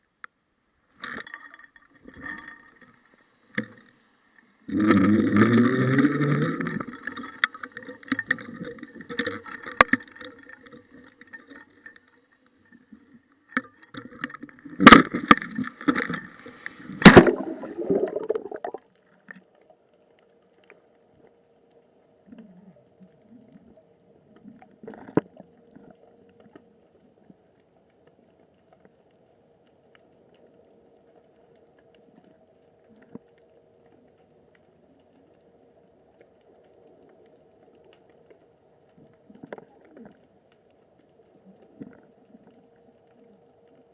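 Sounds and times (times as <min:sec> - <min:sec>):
faint underwater hum: 0:00.0 - 0:43.9
light crackles: 0:00.0 - 0:43.9
muffled water and handling noise: 0:00.0 - 0:43.9.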